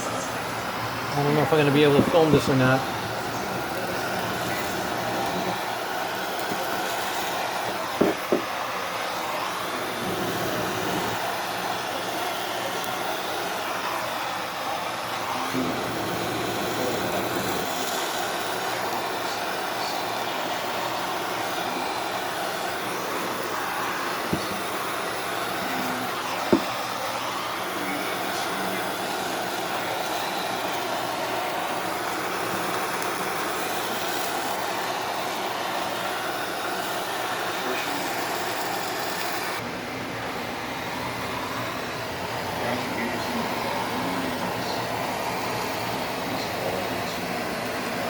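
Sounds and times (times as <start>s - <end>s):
torch rushing roar: 0.0s - 48.0s.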